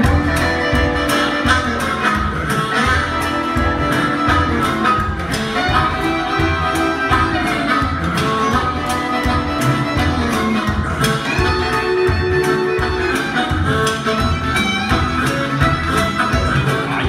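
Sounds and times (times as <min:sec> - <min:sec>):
country band playing: 0:00.0 - 0:17.0
harmonica lead: 0:00.0 - 0:17.0.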